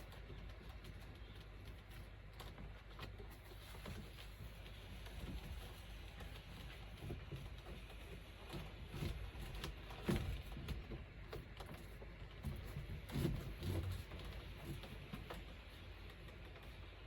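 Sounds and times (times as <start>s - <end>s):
knocks and clunks of handling: 0.0s - 17.0s.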